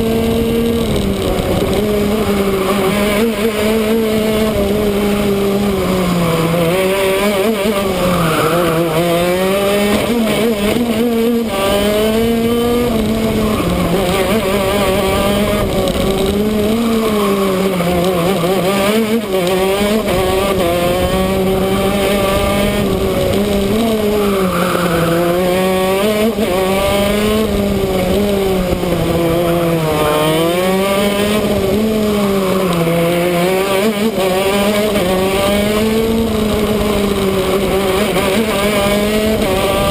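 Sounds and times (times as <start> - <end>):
kart engine racing: 0.0 - 39.9.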